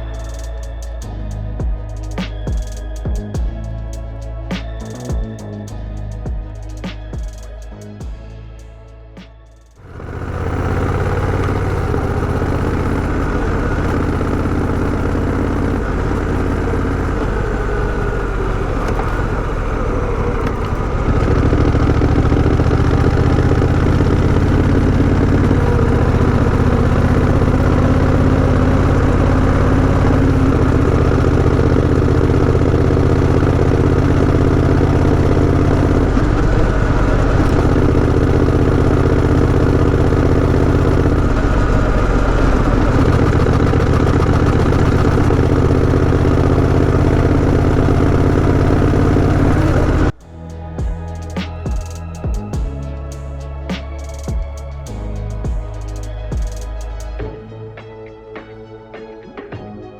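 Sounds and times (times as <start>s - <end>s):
motorcycle engine running: 0.0s - 8.2s, 9.8s - 50.2s, 50.8s - 57.3s.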